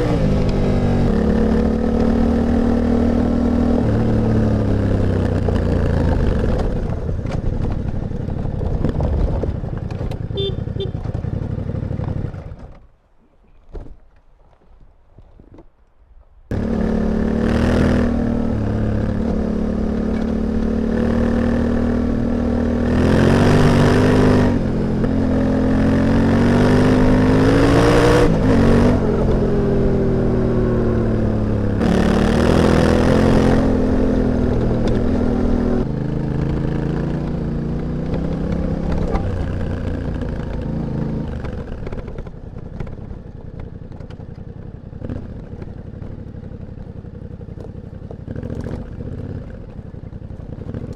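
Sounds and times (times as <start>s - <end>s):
motorcycle exhaust revving: 0.0s - 12.4s, 16.5s - 50.9s.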